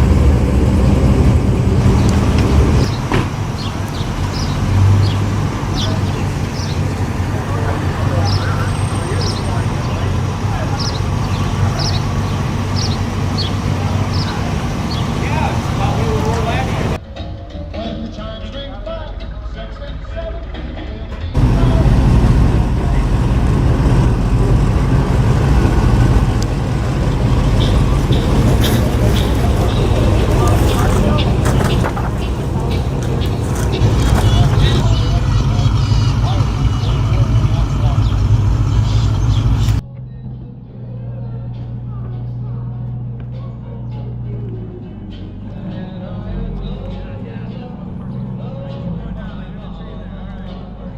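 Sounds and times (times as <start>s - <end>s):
vehicle engine rumble: 0.0s - 17.0s, 19.0s - 50.9s.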